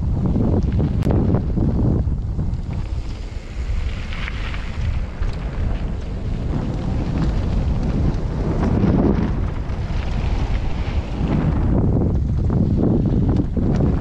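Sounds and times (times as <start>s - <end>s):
faint ticks and rattles: 0.0s - 14.0s
wind buffeting microphone: 0.0s - 14.0s.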